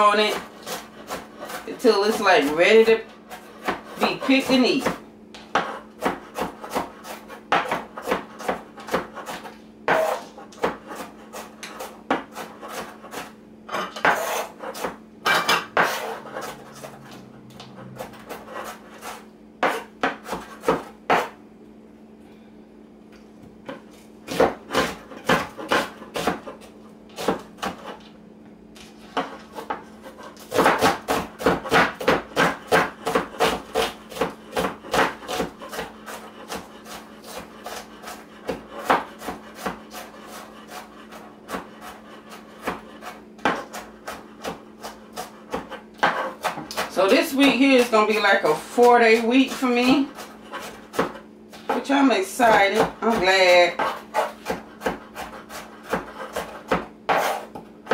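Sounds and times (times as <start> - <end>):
knife chopping on cutting board: 0.0 - 21.4, 23.6 - 28.0, 29.1 - 57.9.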